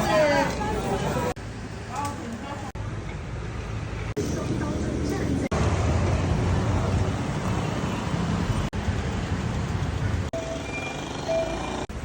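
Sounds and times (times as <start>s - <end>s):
vehicles passing on city street: 0.0s - 12.0s.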